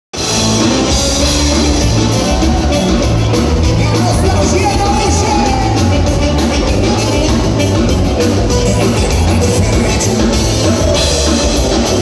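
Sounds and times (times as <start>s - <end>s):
live band playing dance music: 0.2s - 12.0s.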